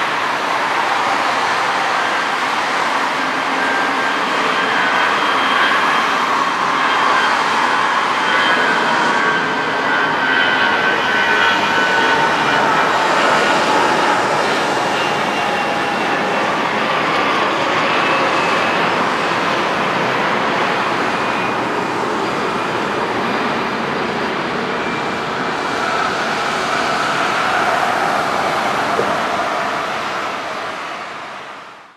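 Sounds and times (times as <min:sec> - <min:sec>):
jet engines at takeoff: 0:00.0 - 0:31.9.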